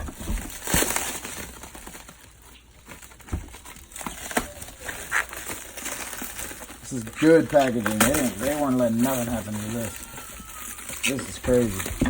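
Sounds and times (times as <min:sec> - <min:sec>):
packing material crinkling: 0:00.0 - 0:12.0.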